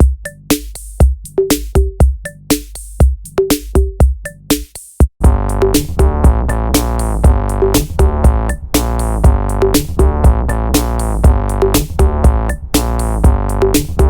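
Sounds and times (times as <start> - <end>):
drum machine beat: 0.0 - 14.0.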